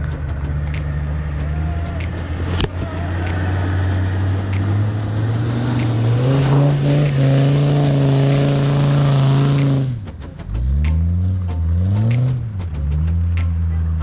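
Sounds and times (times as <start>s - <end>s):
sharp ticks: 0.0s - 13.7s
car engine pulling under throttle: 0.0s - 14.0s.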